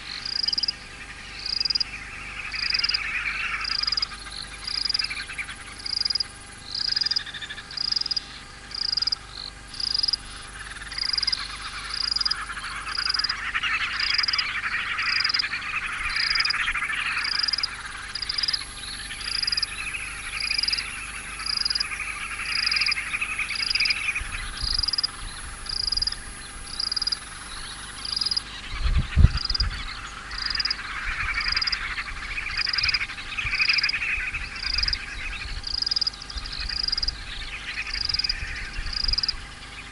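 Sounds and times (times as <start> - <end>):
frog and insect chorus: 0.0 - 39.9
thin steady high whine: 0.0 - 39.9.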